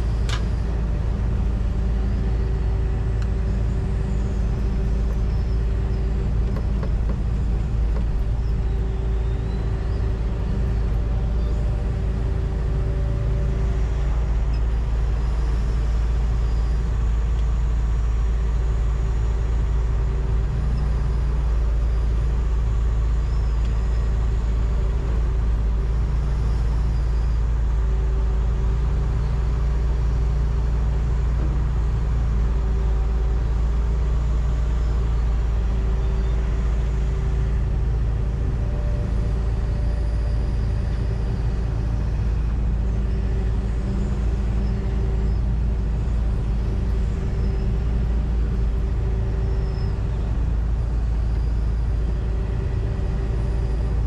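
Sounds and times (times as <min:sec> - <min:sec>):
excavator diesel engine rumble: 0:00.0 - 0:54.0
hydraulic whine: 0:00.0 - 0:54.0.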